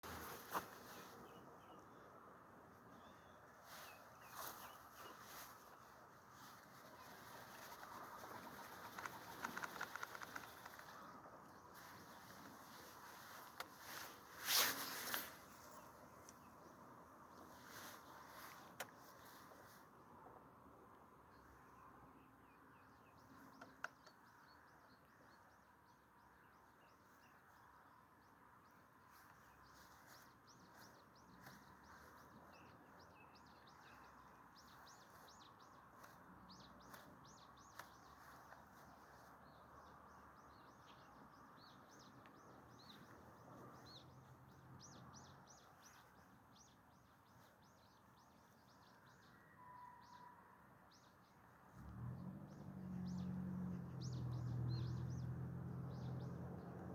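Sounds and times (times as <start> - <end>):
birds chirping: 0.0 - 19.7, 21.3 - 56.9.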